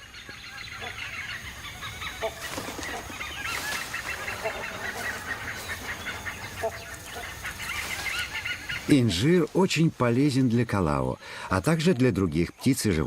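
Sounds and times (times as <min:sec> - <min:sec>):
birds chattering: 0:00.0 - 0:13.0.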